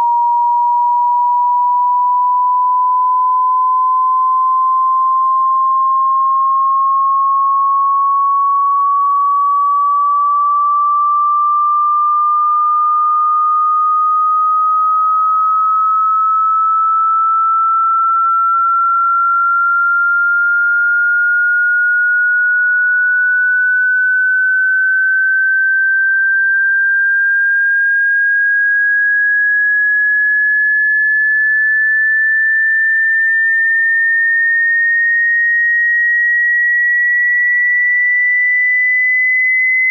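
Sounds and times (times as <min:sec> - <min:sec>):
pure sine tone gliding upward: 0:00.0 - 0:39.9.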